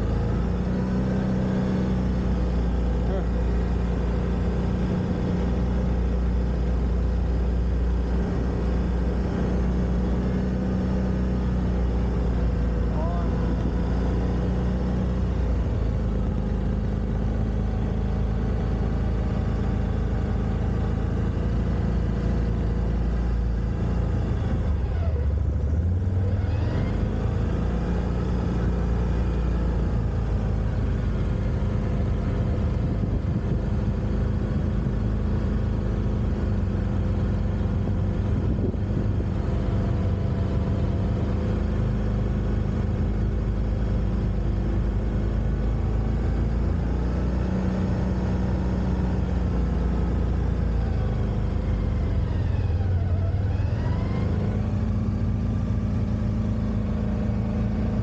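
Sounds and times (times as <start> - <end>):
quad bike engine revving: 0.0 - 43.5, 44.1 - 58.0.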